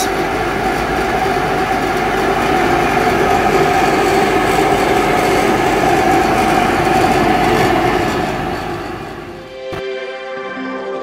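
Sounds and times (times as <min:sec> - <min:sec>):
extraction fan rushing air: 0:00.0 - 0:09.6.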